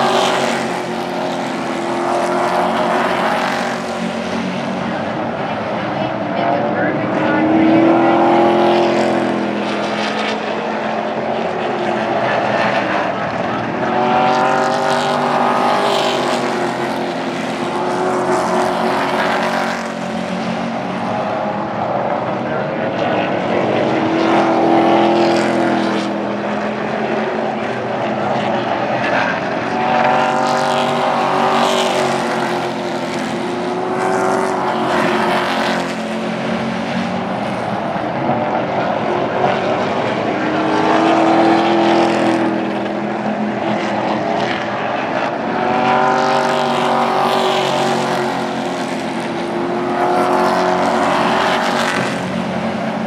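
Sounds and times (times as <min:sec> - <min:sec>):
race truck engines passing: 0:00.0 - 0:53.0.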